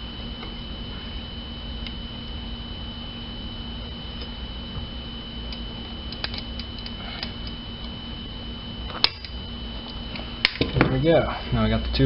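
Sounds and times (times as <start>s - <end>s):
steady hum and thin whine: 0.0s - 12.0s.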